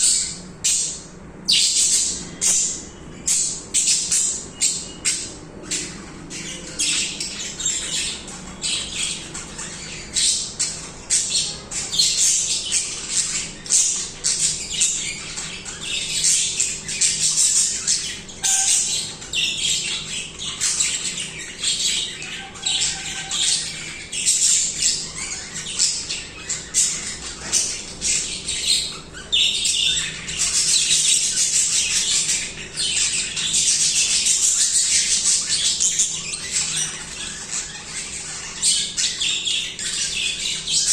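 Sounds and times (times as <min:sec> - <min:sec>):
budgies chirping: 0:00.0 - 0:40.9.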